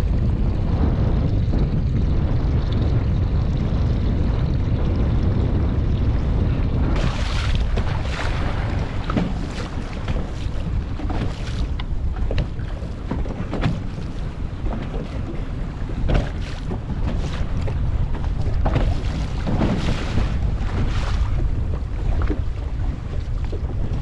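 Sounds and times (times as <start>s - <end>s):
wind buffeting microphone: 0.0s - 24.0s
water lapping: 4.6s - 24.0s.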